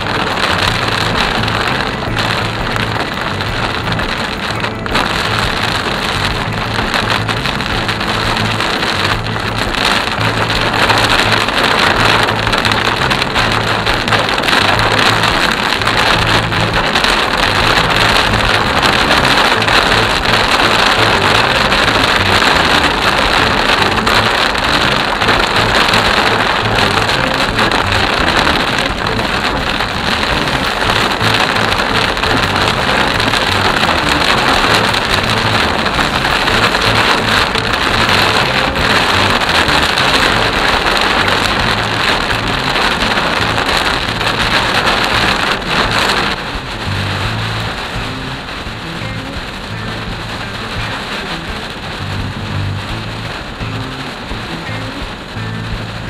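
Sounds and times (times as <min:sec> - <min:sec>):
heavy rain on car roof: 0:00.0 - 0:56.0
spray from wet road: 0:00.0 - 0:56.0.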